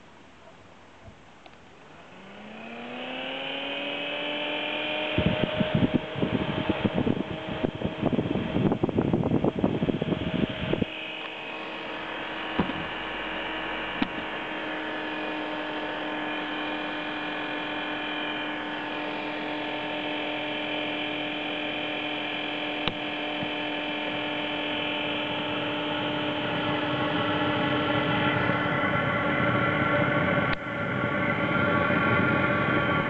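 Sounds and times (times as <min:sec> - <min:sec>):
blower motor humming: 0:01.0 - 0:33.0.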